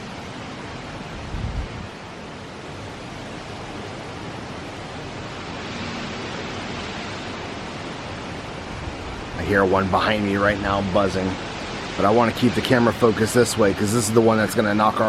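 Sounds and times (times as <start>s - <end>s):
hurricane wind with rain: 0.0s - 15.0s.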